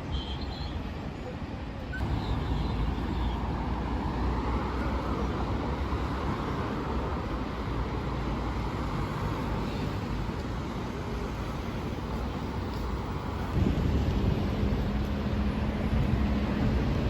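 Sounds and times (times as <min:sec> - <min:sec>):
low traffic rumble: 0:00.8 - 0:17.0.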